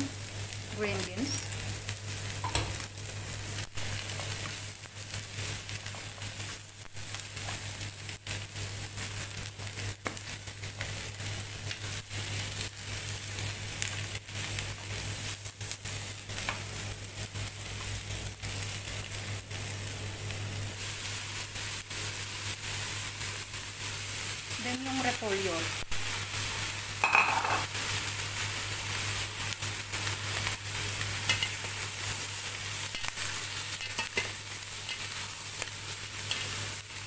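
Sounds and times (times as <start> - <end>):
food sizzling in oil: 0.0 - 37.0.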